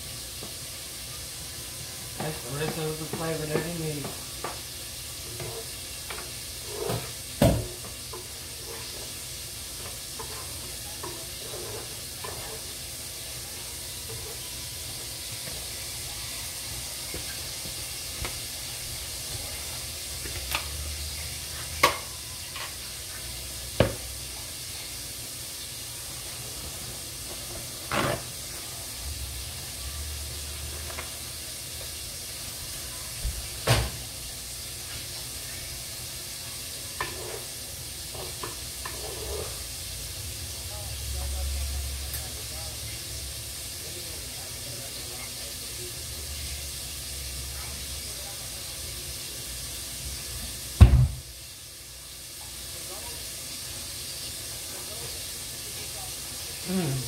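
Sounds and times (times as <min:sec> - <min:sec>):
food sizzling in pots: 0:00.0 - 0:57.0.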